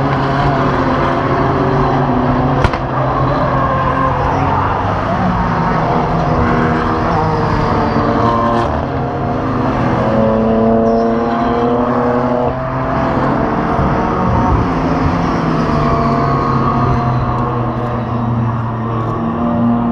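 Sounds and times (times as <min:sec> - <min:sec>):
race car engines at full throttle: 0:00.0 - 0:19.9.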